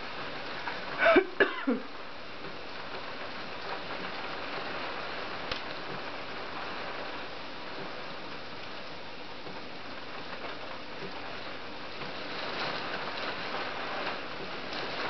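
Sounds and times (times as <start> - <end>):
heavy rain through window: 0.0 - 15.0.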